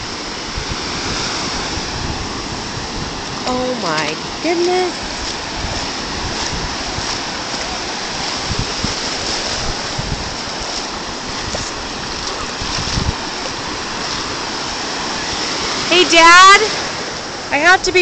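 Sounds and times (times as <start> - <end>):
ocean surf washing in: 0.0 - 18.0
wind thumping on microphone: 0.0 - 18.0.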